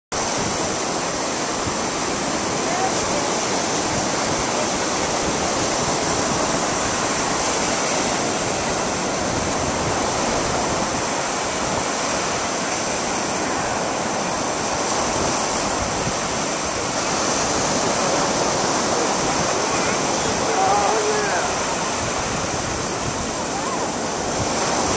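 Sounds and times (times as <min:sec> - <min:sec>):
ocean waves on sandy beach: 0:00.1 - 0:24.9.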